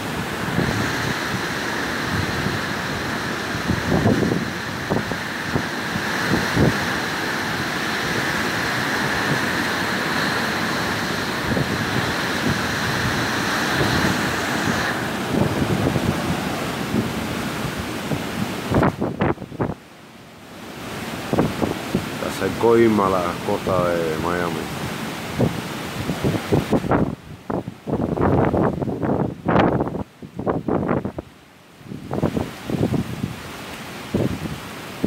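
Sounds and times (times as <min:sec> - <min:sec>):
heavy rain hiss: 0:00.0 - 0:35.0
wind gusts buffeting microphone: 0:00.0 - 0:35.0.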